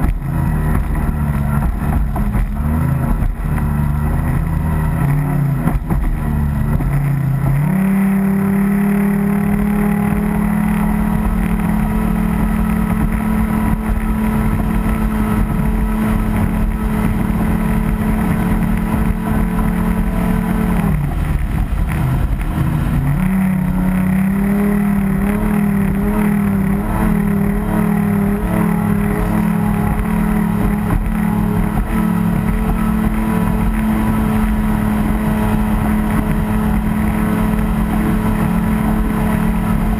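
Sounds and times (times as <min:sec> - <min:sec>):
water rushing under hull: 0:00.0 - 0:39.9.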